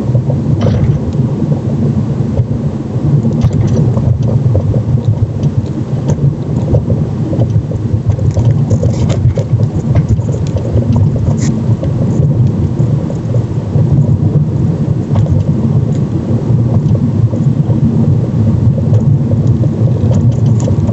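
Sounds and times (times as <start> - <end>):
road and suspension rumble: 0.0 - 20.9.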